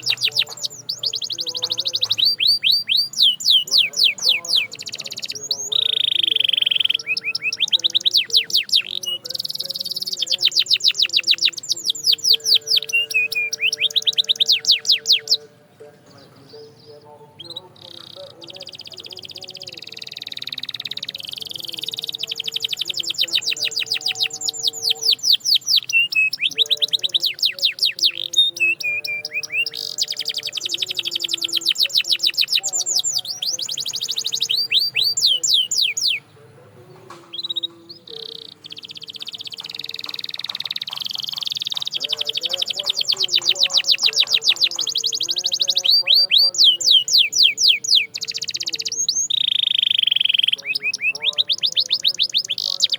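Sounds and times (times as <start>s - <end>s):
canary trilling: 0.0s - 52.9s.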